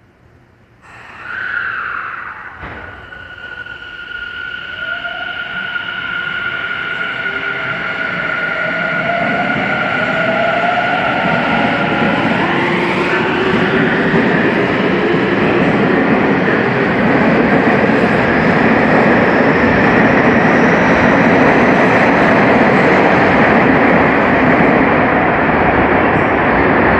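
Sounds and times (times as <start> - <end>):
train wheels rumbling: 0.9 - 26.9.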